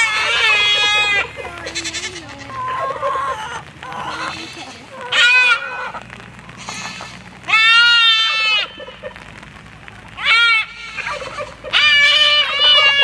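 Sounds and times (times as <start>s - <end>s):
goats bleating: 0.0s - 9.2s, 10.1s - 13.0s.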